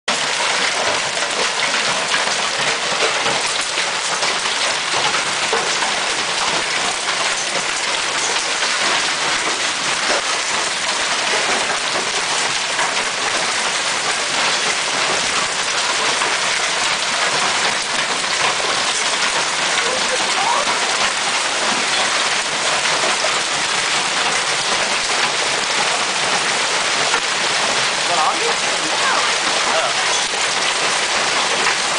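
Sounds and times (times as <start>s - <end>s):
hailstones clattering on pavement and cars: 0.1s - 31.9s.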